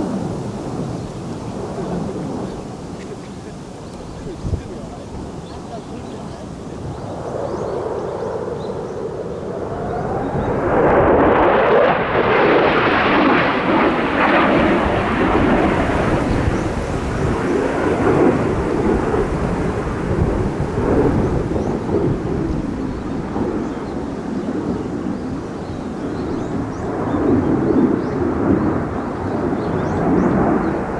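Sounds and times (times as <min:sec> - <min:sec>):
fighter jet passing: 0:00.0 - 0:30.9.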